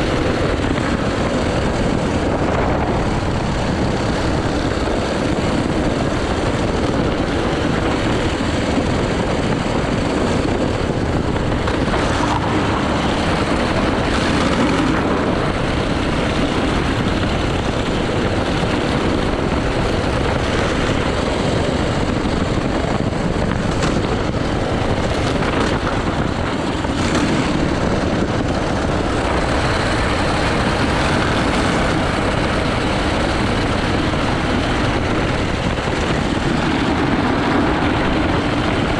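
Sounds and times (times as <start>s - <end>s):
dense rushing noise: 0.0s - 38.9s
kart engine running: 0.0s - 38.9s.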